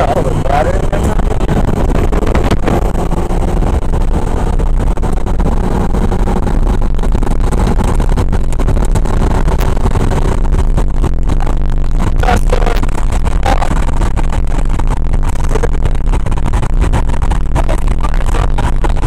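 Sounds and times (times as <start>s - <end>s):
diesel pickup engine drone: 0.0s - 19.0s
road noise: 0.0s - 19.0s.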